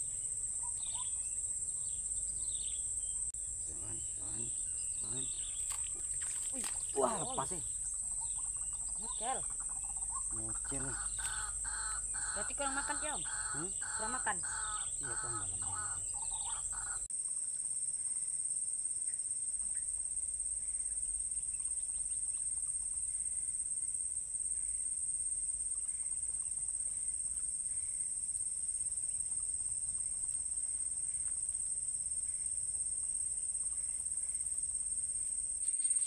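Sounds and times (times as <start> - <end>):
faint insect chirps: 0.0 - 36.0
insect chorus: 0.0 - 36.0.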